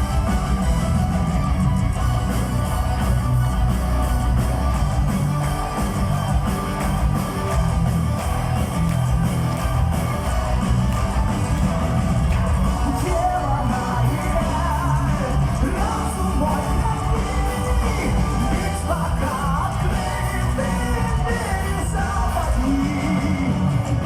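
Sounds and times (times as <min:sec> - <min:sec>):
heavy metal band playing: 0:00.0 - 0:24.0.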